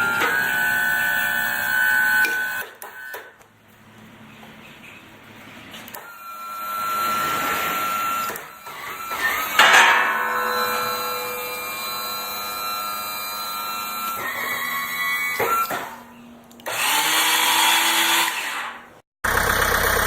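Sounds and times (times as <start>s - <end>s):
skid steer hydraulic whine: 0.0s - 3.4s, 5.7s - 20.0s.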